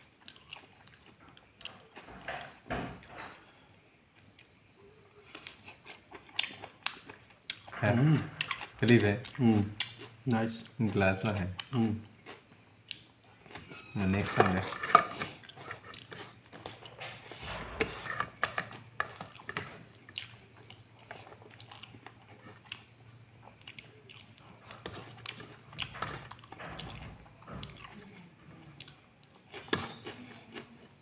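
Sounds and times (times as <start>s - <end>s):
person chewing and smacking: 0.2s - 2.1s, 5.2s - 17.3s, 18.4s - 31.0s.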